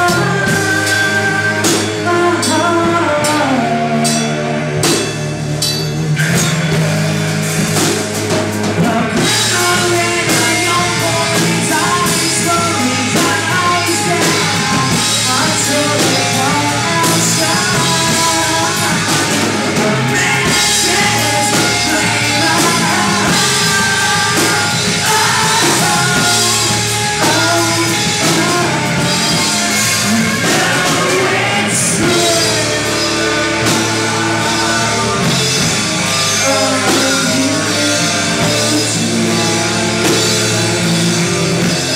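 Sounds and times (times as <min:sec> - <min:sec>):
person singing: 0:00.0 - 0:04.8, 0:08.7 - 0:41.9
distorted electric guitar: 0:00.0 - 0:41.9
drum kit: 0:00.0 - 0:41.9.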